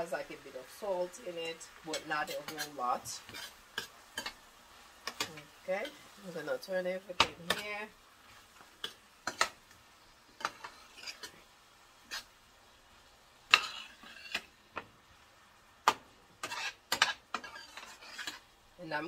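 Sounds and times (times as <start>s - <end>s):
spoon scraping a skillet: 0.0s - 19.0s.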